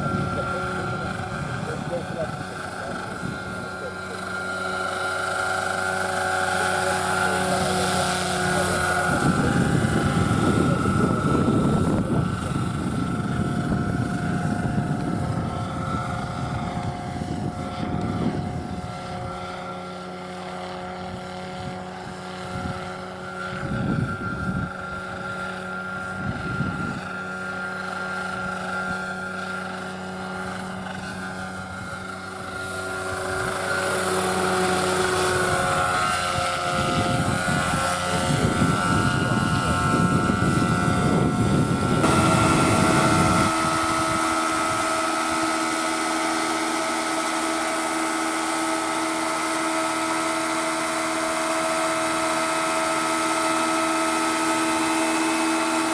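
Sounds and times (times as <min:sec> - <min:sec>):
model helicopter motor whine: 0:00.0 - 0:55.9.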